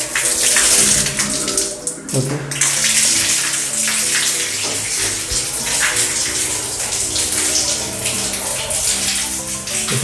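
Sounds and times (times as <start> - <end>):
water running from spout: 0.0 - 10.0.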